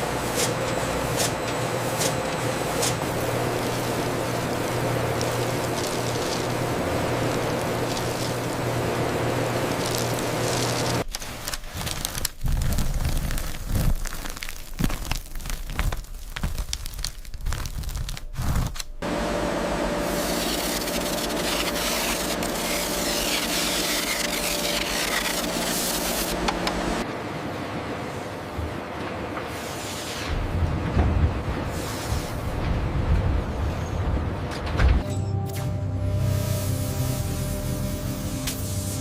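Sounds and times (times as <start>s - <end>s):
mechanical hum with hiss: 0.0s - 13.1s, 18.3s - 35.0s, 35.6s - 39.0s.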